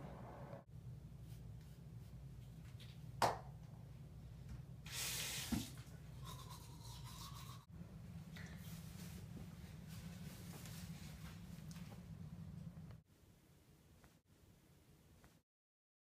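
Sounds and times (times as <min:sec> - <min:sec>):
low room hum: 0:00.0 - 0:15.4.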